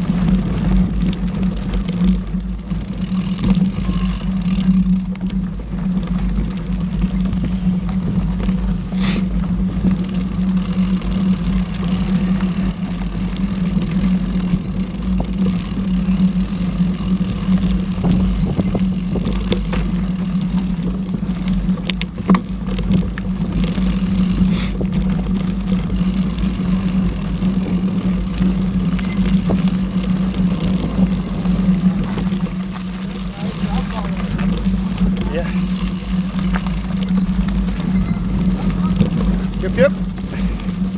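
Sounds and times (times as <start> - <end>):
tyres and wind rumble: 0.0 - 40.9
bike clicks and knocks: 0.1 - 40.9.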